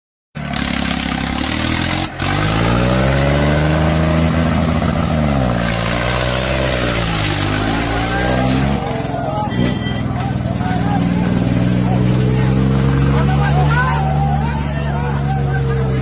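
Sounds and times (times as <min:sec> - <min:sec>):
tractor diesel engine revving: 0:00.4 - 0:16.0.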